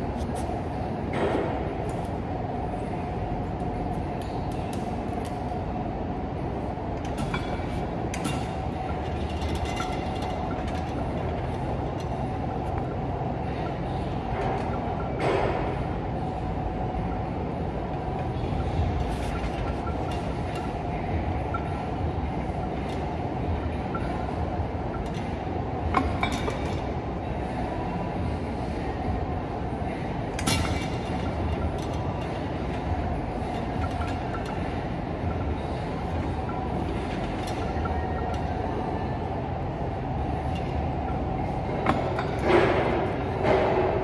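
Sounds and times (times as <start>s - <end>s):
exercise machine rumble: 0.0s - 44.0s
faint hum: 0.0s - 44.0s.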